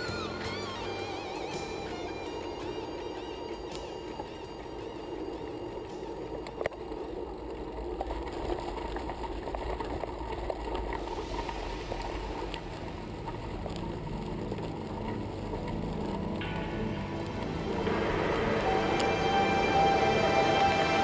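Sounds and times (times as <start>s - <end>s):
bicycle tyres and wind rumble: 0.0s - 21.0s
gravel clicking under tyres: 0.0s - 21.0s.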